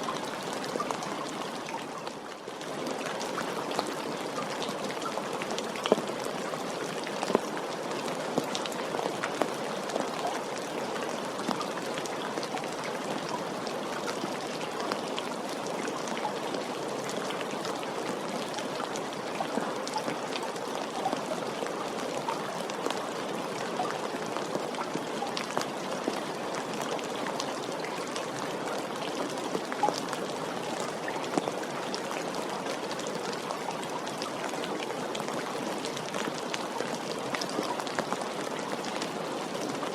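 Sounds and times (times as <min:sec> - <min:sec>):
gentle rain hiss: 0:00.0 - 0:39.9.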